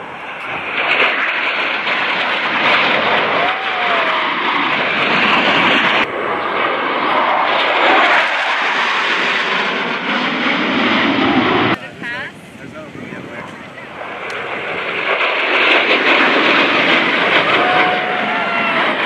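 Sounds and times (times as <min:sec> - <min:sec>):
jet engines passing overhead: 0:00.0 - 0:19.0.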